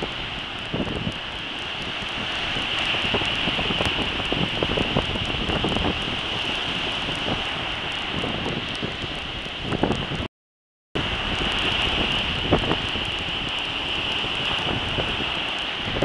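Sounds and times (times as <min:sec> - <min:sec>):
surf breaking on beach: 0:00.0 - 0:10.3, 0:11.0 - 0:16.0
wind buffeting microphone: 0:00.0 - 0:10.3, 0:11.0 - 0:16.0.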